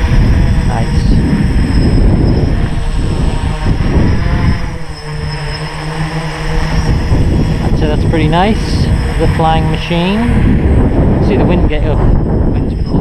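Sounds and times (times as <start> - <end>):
drone propellers buzzing: 0.0 - 13.0
wind buffeting microphone: 0.0 - 13.0.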